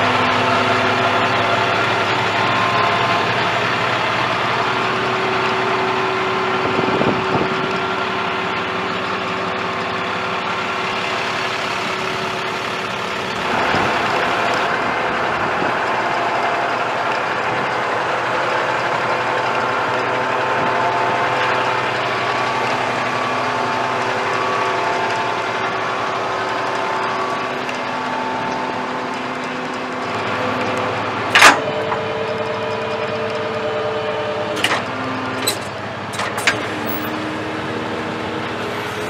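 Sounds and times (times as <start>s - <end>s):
diesel truck idling: 0.0s - 39.0s
steady whine: 0.0s - 39.0s.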